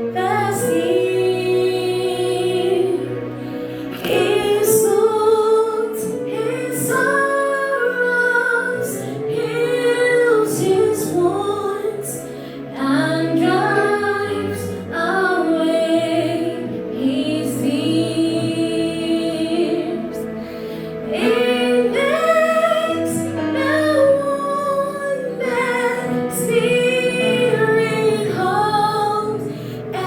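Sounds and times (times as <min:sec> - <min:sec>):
woman singing hymn: 0:00.0 - 0:20.4, 0:21.1 - 0:30.0.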